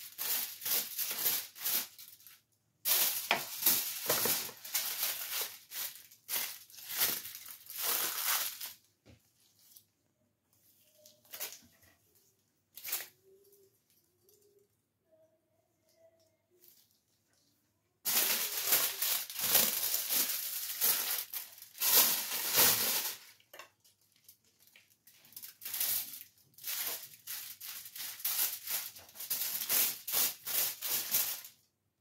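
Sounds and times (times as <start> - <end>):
aluminium foil crinkling and rustling: 0.0 - 10.0, 10.7 - 14.6, 16.5 - 31.7.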